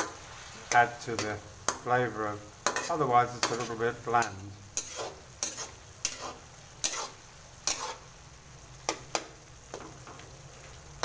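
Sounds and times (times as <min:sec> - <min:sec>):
utensil scraping a wok: 0:00.0 - 0:10.0
meat sizzling: 0:00.0 - 0:11.0.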